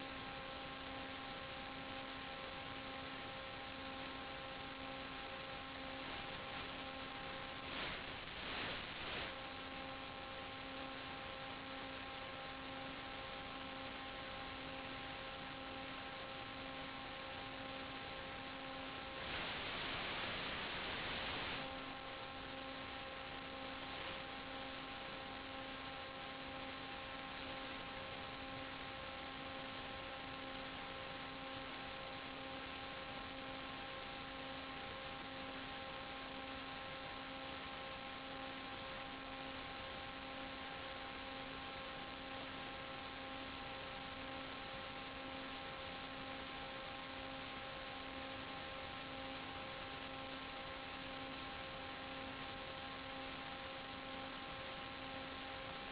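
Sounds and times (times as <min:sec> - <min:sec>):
electrical hum and hiss: 0:00.0 - 0:55.9.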